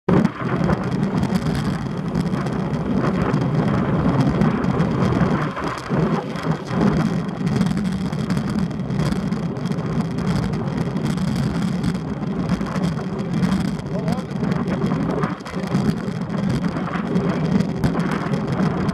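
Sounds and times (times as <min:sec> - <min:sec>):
bicycle tyre and road noise: 0:00.1 - 0:18.9
wind noise on microphone: 0:00.1 - 0:18.9.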